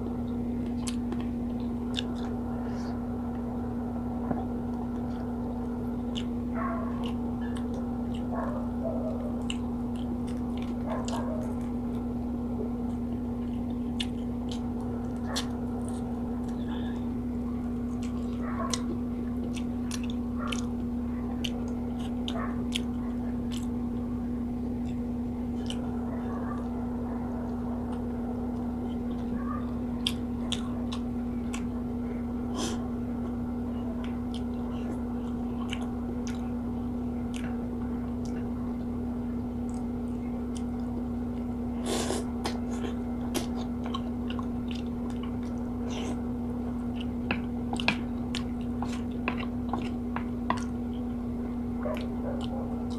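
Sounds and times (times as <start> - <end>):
chewing and mouth sounds: 0.0 - 3.5, 4.2 - 52.9
low hum: 0.0 - 52.9.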